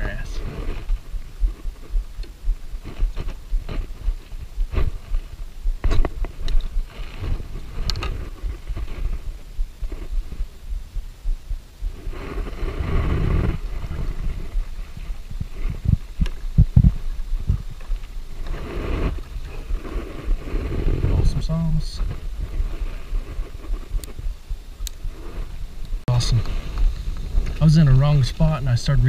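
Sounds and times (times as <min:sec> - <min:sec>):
heavy low thumps: 0:00.0 - 0:28.4
rustling: 0:00.0 - 0:28.5.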